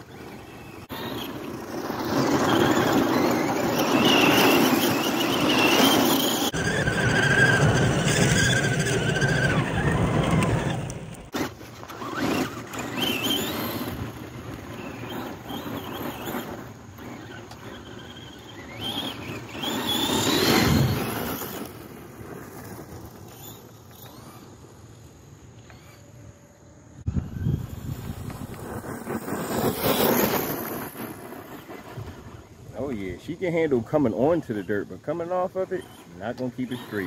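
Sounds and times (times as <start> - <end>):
tires spraying gravel: 0.0 - 26.0, 27.2 - 37.0
toy truck motor whining: 0.0 - 33.4, 34.0 - 37.0.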